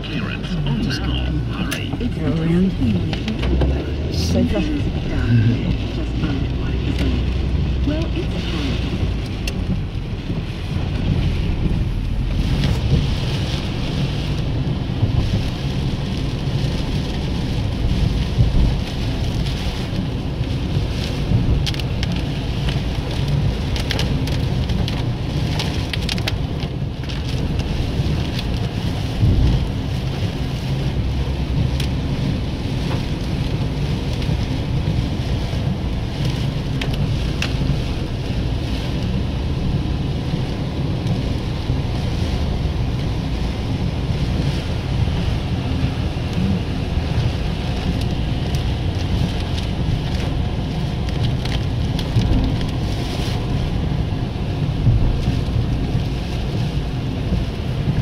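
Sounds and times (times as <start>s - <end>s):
car and tyres rumbling: 0.0s - 58.0s
heavy rain on car roof: 0.0s - 58.0s.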